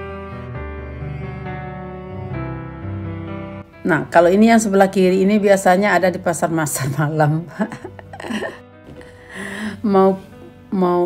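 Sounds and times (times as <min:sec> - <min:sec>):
slow soft instrumental music: 0:00.0 - 0:11.0.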